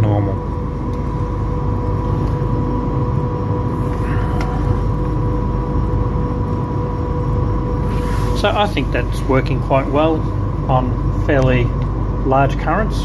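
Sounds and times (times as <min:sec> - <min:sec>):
constant two-pitch whine: 0:00.0 - 0:13.0
industrial machinery droning: 0:00.0 - 0:13.0.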